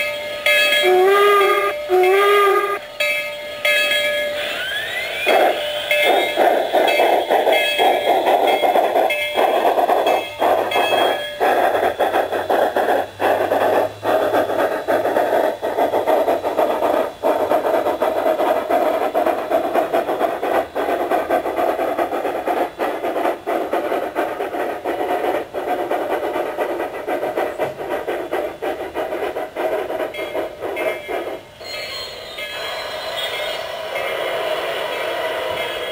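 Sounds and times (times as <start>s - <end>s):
simulated steam locomotive hiss: 0.0s - 35.9s.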